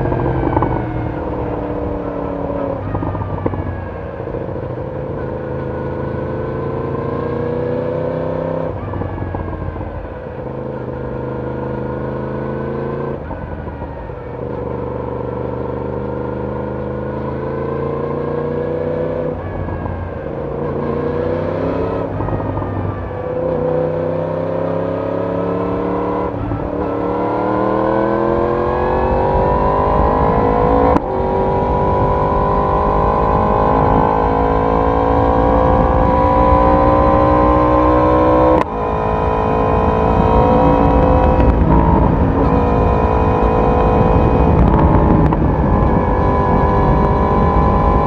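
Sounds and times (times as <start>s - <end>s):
motorcycle exhaust accelerating: 0.0s - 48.0s
wind and road rumble: 0.0s - 48.0s.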